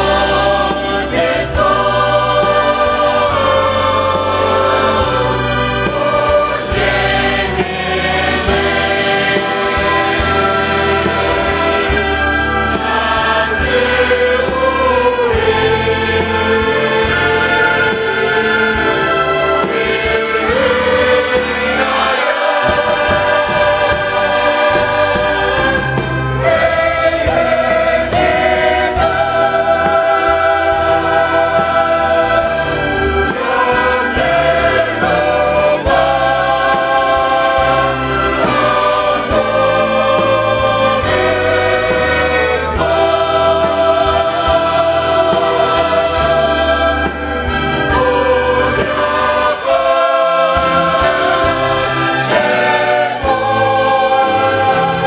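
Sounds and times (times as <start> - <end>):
choir singing with instruments: 0.0 - 55.0.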